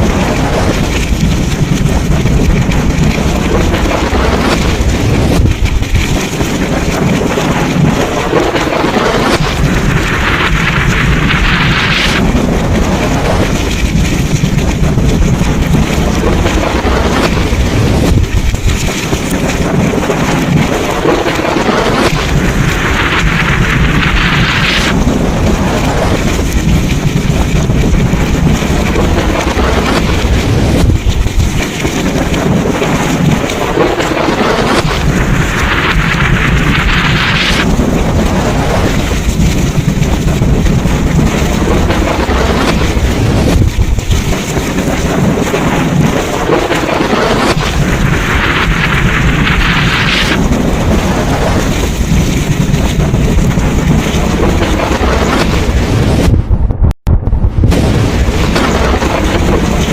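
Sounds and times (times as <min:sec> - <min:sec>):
heavy rain: 0:00.0 - 0:59.9
rumble of thunder: 0:00.0 - 0:59.9.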